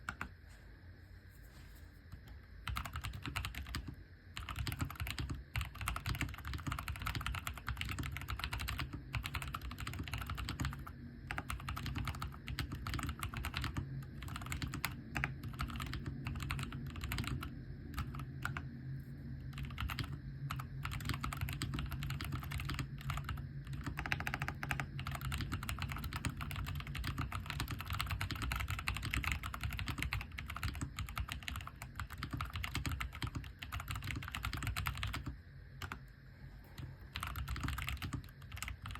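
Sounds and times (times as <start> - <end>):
mechanical keyboard typing: 0.0 - 0.3, 2.2 - 18.6, 19.5 - 36.0, 36.8 - 38.9.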